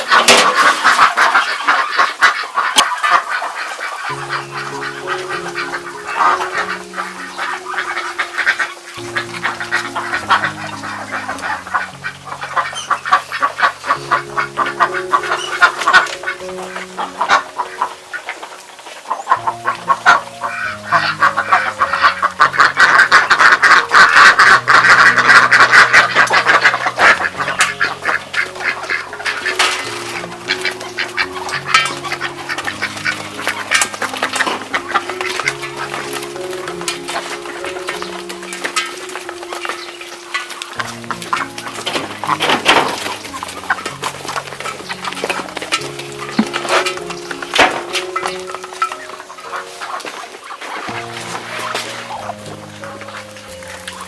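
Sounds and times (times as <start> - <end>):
ducks quacking: 0.0 - 54.0
slow low background music: 3.9 - 54.0.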